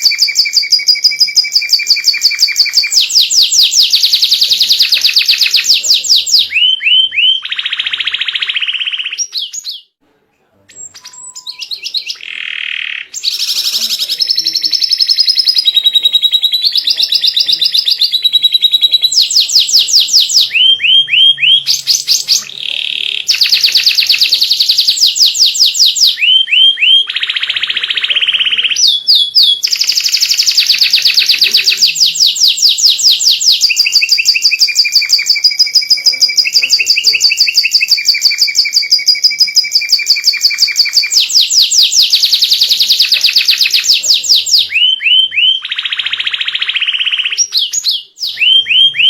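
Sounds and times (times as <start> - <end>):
canary singing trills: 0.0 - 10.0, 10.7 - 49.0.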